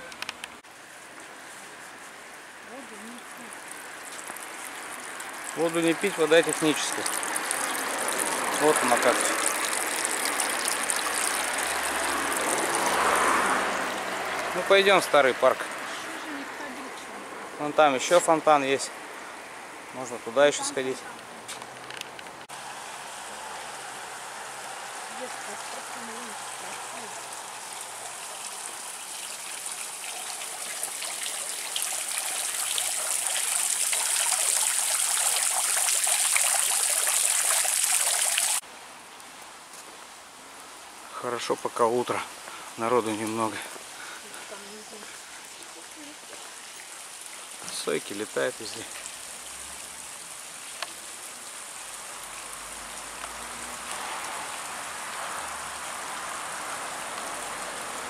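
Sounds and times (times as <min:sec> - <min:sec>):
fountain water splashing and trickling: 0:00.0 - 0:58.0.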